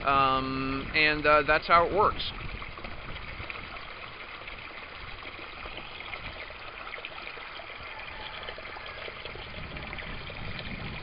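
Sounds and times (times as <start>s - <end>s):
water pouring into barrel: 0.0s - 11.0s.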